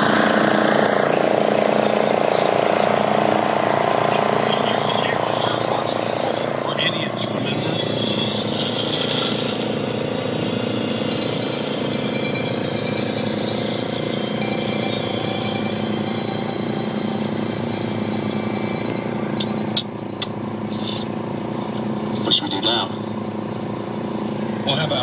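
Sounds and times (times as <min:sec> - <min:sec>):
small mower engine running: 0:00.0 - 0:25.0.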